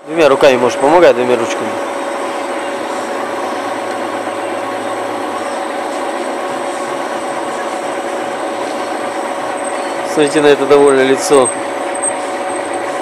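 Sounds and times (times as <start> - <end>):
lathe running with whine: 0.0 - 13.0.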